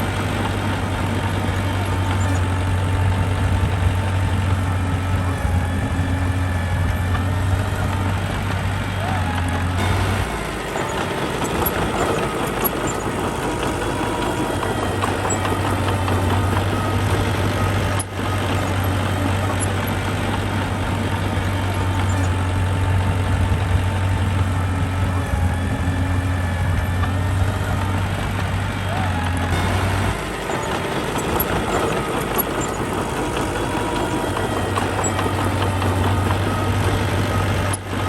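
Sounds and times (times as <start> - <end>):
diesel engine of heavy machinery: 0.0 - 38.0.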